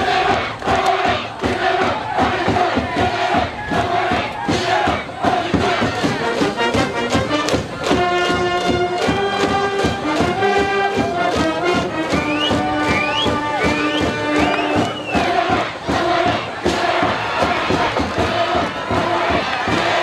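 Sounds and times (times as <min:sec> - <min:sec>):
cheering voices: 0:00.0 - 0:20.0
steady drum beat: 0:00.0 - 0:20.0
brass band playing: 0:01.0 - 0:20.0.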